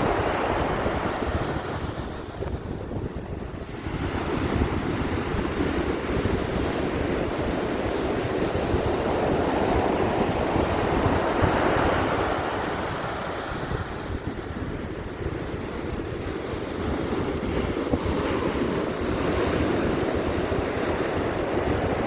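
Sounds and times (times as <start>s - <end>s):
ocean waves surging: 0.0s - 2.4s, 3.3s - 22.0s
wind buffeting microphone: 0.0s - 22.0s.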